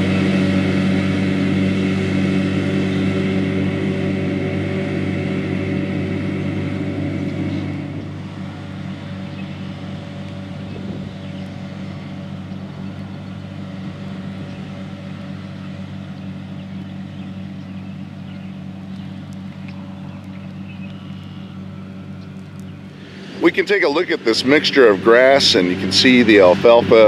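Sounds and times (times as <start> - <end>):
mower discs whirring: 0.0 - 27.0
tractor engine drone: 0.0 - 27.0.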